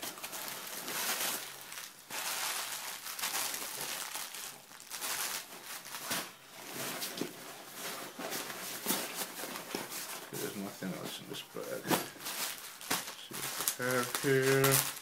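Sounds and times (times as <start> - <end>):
bag and plastic wrapping rustling: 0.0 - 15.0.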